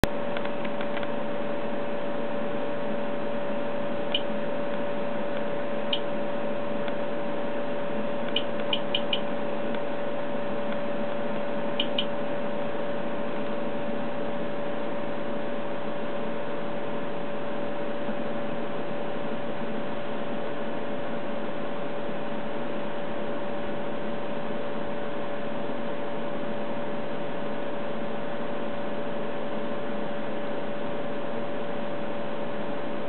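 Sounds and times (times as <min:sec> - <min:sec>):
cooling fan hum and hiss: 0:00.0 - 0:33.0.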